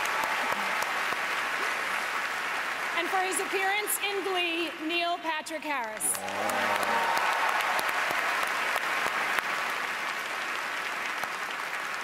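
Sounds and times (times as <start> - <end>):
large audience applauding: 0.0 - 4.6, 5.8 - 12.0.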